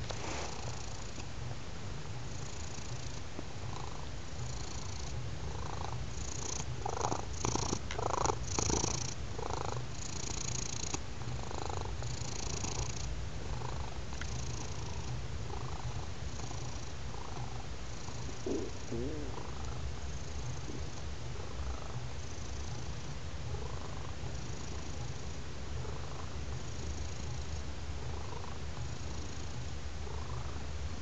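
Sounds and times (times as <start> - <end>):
cat purring: 0.0 - 1.3, 2.2 - 31.0.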